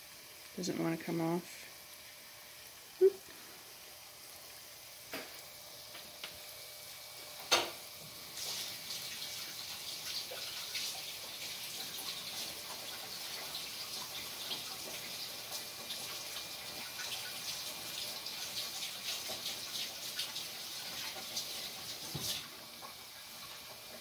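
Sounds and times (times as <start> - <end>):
dough deep-frying in oil: 0.0 - 24.0.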